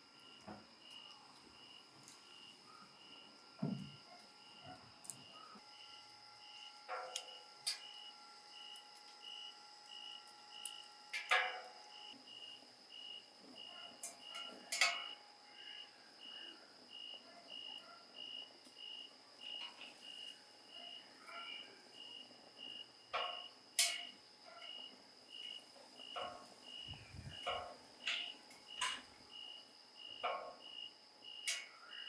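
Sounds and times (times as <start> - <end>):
crickets chirping: 0.0 - 32.0
high insect trill: 0.0 - 32.0.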